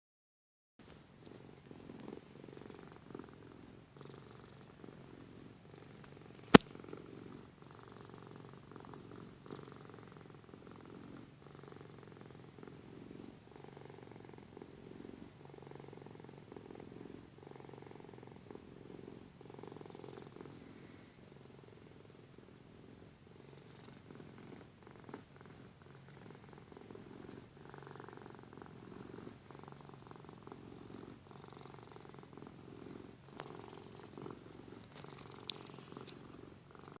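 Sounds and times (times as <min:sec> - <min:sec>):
cat purring: 0:00.8 - 0:37.0.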